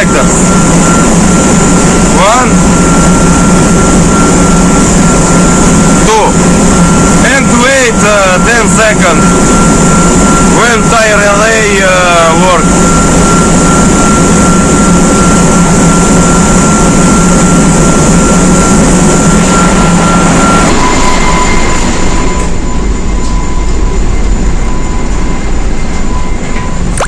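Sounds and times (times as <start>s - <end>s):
burner low hum and whine: 0.0s - 27.0s
engine-room machinery noise: 0.0s - 27.0s
steady electronic tone: 0.0s - 27.0s.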